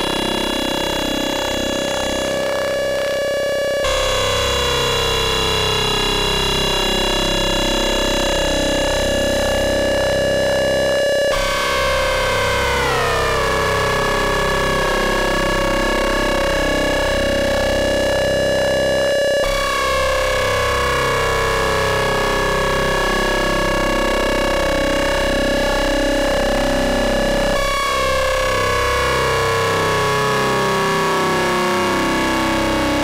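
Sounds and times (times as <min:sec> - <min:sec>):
buzzy synthesizer drone: 0:00.0 - 0:33.0.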